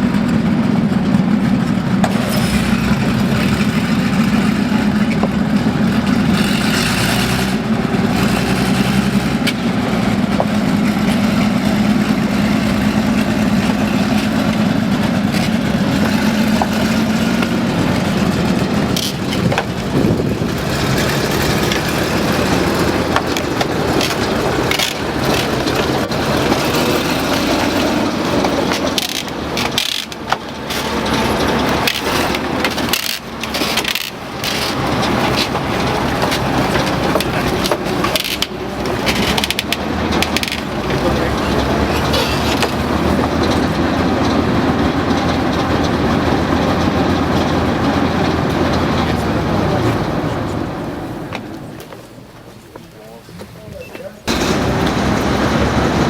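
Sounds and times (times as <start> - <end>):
tank engine droning: 0.0 - 56.0.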